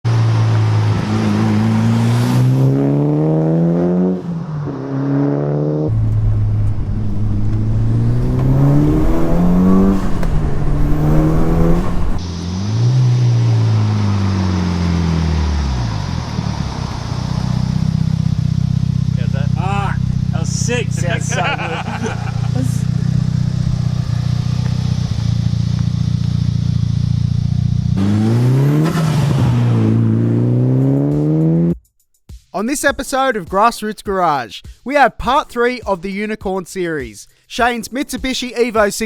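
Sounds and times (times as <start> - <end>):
turbocharged car engine accelerating: 0.0 - 31.8.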